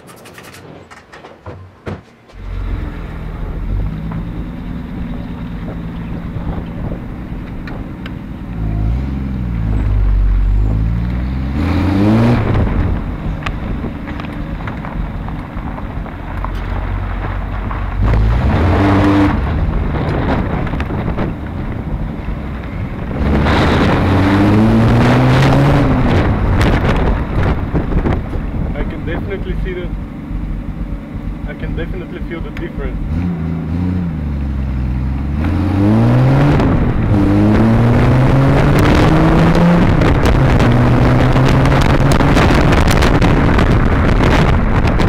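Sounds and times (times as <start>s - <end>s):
car engine accelerating through gears: 2.3s - 45.0s.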